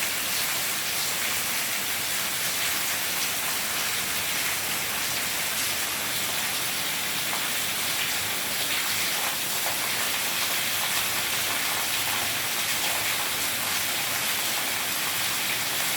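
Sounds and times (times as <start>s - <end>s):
heavy rain downpour: 0.0s - 15.9s.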